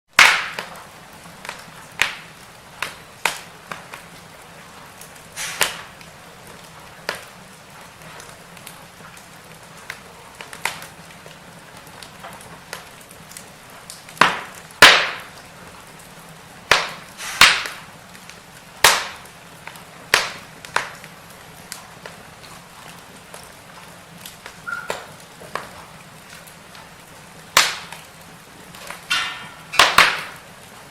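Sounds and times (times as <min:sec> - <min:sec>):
firewood crackling and popping: 0:00.1 - 0:30.9
faint steady hiss: 0:00.2 - 0:30.9.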